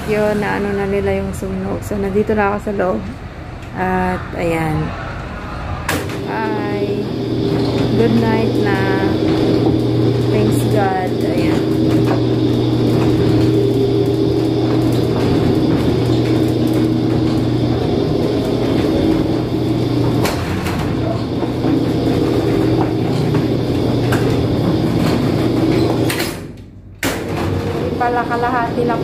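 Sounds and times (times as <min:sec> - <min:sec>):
low engine drone: 0:00.0 - 0:26.5, 0:27.4 - 0:29.0.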